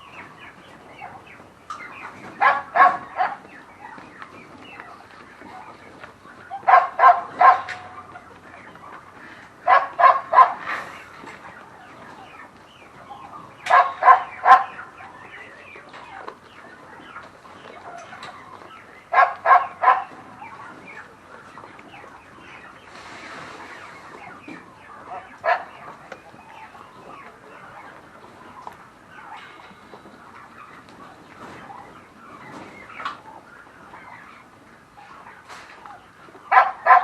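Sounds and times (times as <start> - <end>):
farm animal noise: 0.0 - 37.0.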